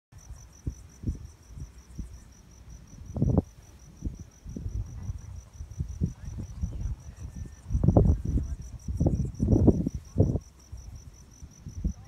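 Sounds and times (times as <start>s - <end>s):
insect chirping: 0.1s - 12.0s.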